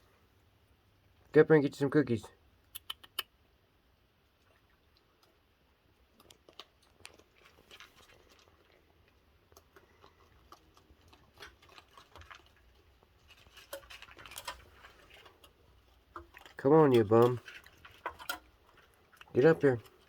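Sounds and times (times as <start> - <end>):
raccoons eating clicks and crunches: 2.4 - 20.0.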